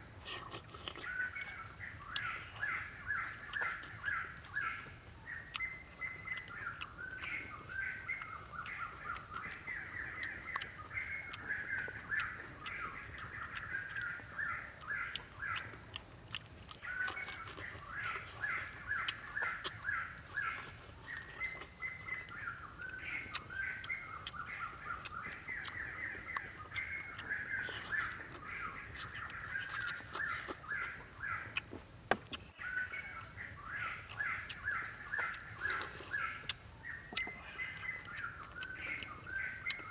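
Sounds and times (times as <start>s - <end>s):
eating clicks and smacks: 0.1s - 39.9s.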